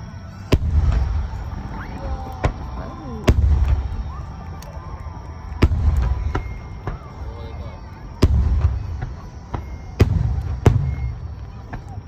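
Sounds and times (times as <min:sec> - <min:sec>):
faint crowd voices: 0:00.0 - 0:12.0
firework shells bursting: 0:00.4 - 0:12.0.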